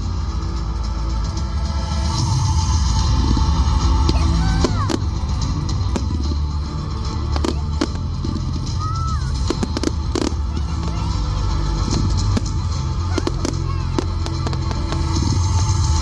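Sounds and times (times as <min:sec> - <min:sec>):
loud music: 0:00.0 - 0:16.0
fireworks bangs and crackles: 0:01.8 - 0:16.0.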